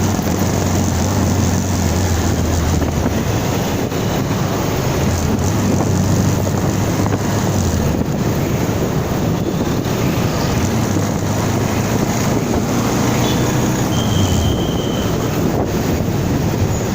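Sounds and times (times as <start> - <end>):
vehicle engine drone: 0.0 - 16.9
wind noise on microphone: 0.0 - 16.9.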